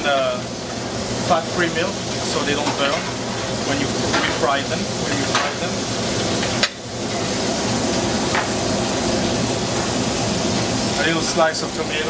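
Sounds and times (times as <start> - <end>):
food sizzling in hot fat: 0.0 - 12.0.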